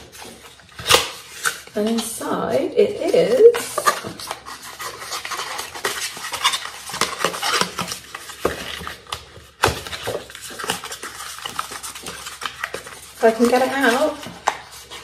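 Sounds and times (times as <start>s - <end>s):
cardboard box rustling and scraping: 0.0s - 15.0s.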